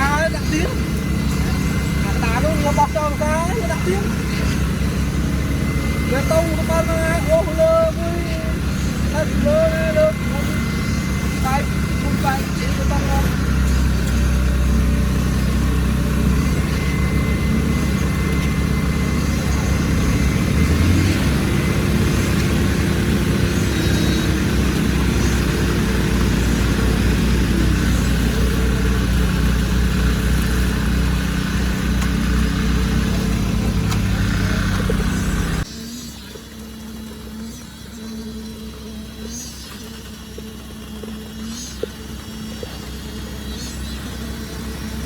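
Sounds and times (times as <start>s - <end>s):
heavy machinery engine running: 0.0s - 45.0s.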